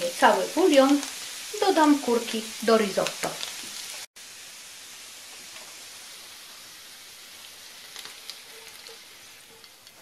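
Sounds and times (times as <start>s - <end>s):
risotto sizzling in a pan: 0.0s - 10.0s.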